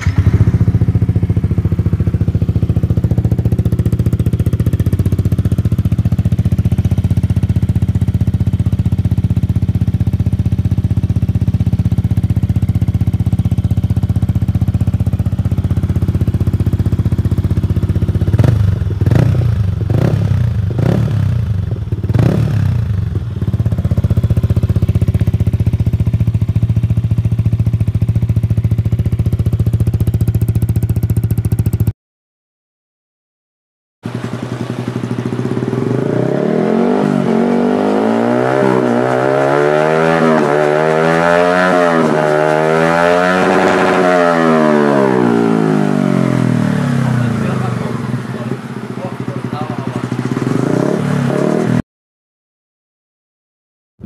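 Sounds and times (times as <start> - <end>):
motorcycle engine idling: 0.0 - 31.9, 34.0 - 39.7, 41.7 - 51.2.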